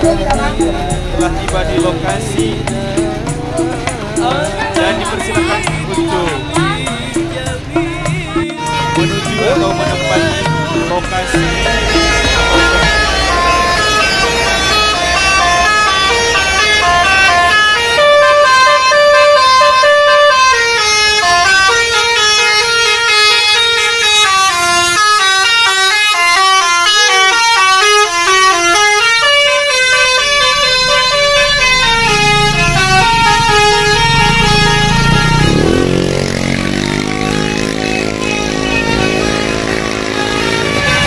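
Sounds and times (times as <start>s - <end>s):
multi-tone bus horn tune: 0.0s - 41.0s.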